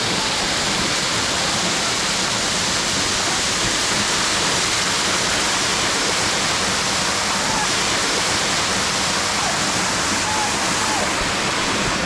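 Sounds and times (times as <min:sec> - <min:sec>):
waterfall crashing: 0:00.0 - 0:12.0.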